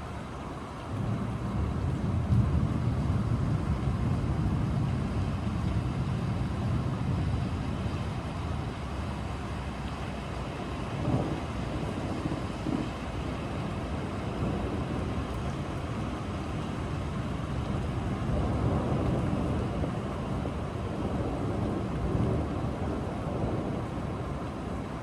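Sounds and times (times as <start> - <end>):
low rumbling thunder: 0.0 - 25.0
steady rain: 0.0 - 25.0.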